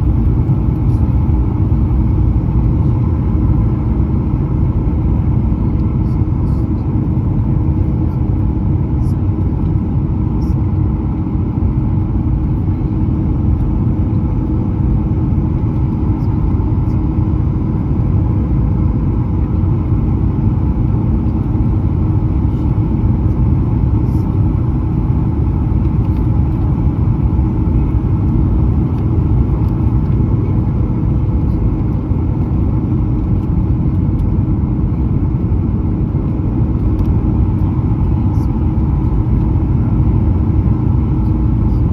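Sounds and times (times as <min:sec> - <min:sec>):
jet engines rumbling: 0:00.0 - 0:41.9.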